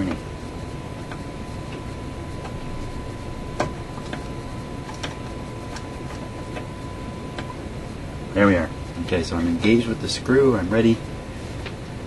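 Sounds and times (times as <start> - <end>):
radio hum and hiss: 0.0 - 12.0.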